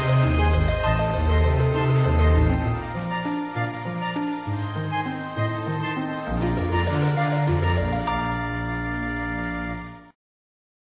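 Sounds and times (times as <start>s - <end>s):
soft sustained music chord: 0.0s - 10.2s.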